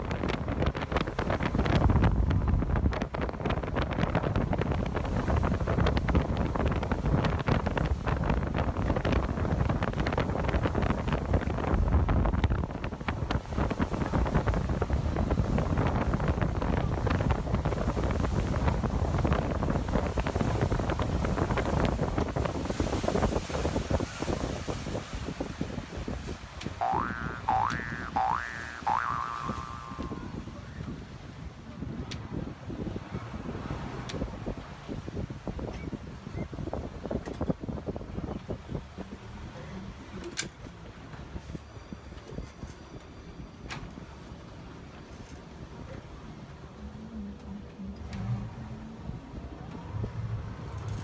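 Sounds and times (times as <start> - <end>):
wind buffeting microphone: 0.0 - 47.6.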